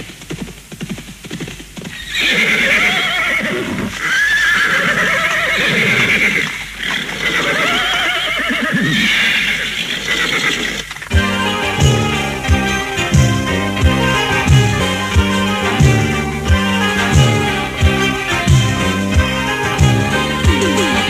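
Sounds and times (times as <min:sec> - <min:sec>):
horse neighing: 0:02.0 - 0:13.1, 0:13.8 - 0:21.0.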